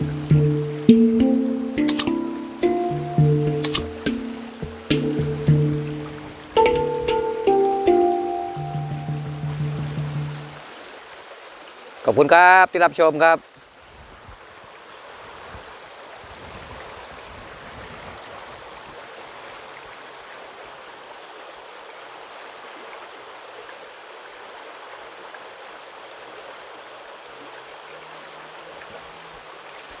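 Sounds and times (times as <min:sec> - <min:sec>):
stream flowing over rocks: 0:00.0 - 0:30.0.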